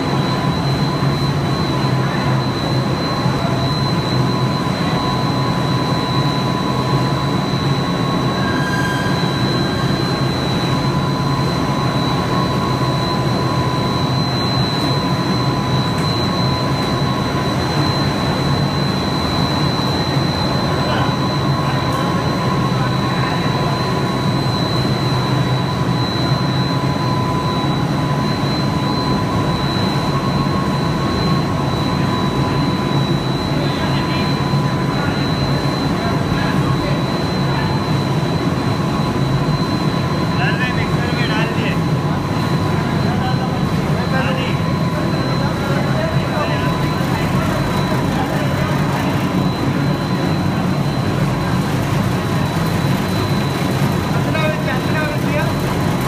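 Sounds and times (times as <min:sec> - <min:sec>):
high-pitched machine whines: 0:00.0 - 0:56.0
machinery low hum: 0:00.0 - 0:56.0.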